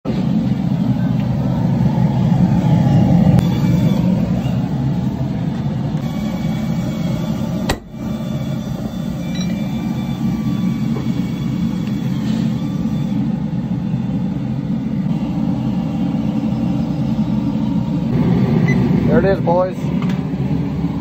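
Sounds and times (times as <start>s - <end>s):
gas forge burner roaring: 0.0s - 21.0s.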